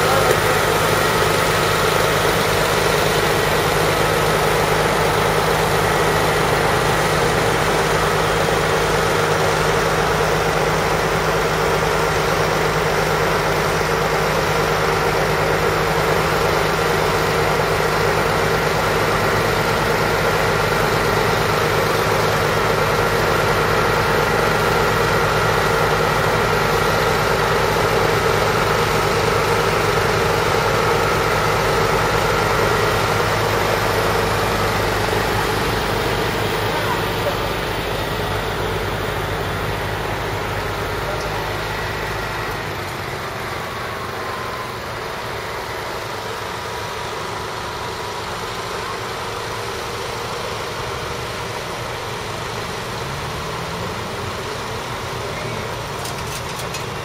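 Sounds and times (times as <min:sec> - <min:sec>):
crane engine idling: 0:00.0 - 0:57.0.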